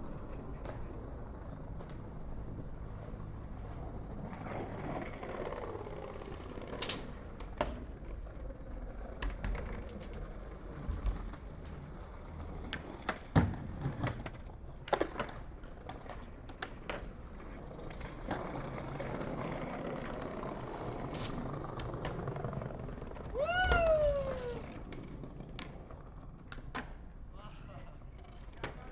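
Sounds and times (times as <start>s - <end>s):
skateboard clacks and knocks: 0.0s - 27.3s, 27.9s - 28.9s
skateboard wheels rolling on pavement: 0.0s - 28.9s.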